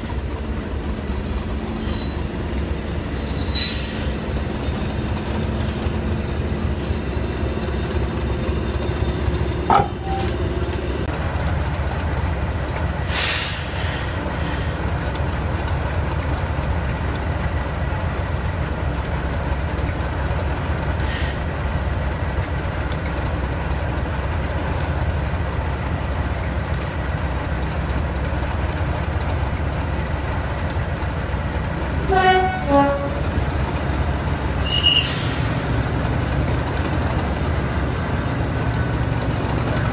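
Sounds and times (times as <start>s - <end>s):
diesel locomotive idling: 0.0s - 39.9s.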